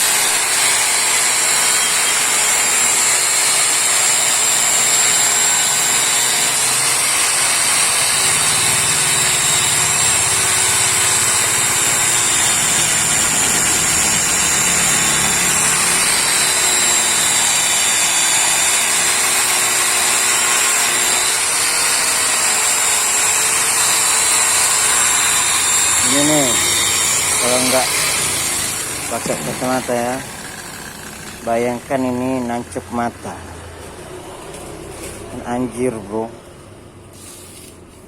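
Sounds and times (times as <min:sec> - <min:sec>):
wire brush grinder scouring metal: 0:00.0 - 0:33.4, 0:37.1 - 0:38.0.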